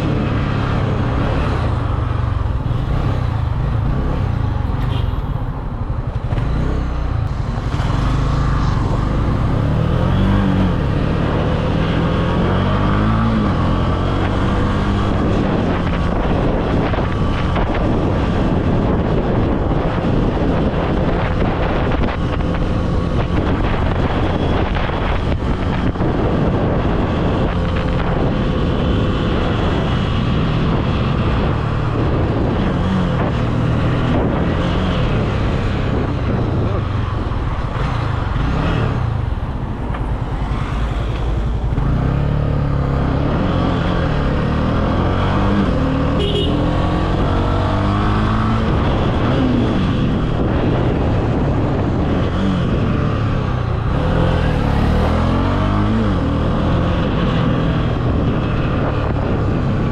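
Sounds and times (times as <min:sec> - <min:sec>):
wind buffeting microphone: 0:00.0 - 0:59.9
motorcycle engine revving: 0:06.2 - 0:59.9.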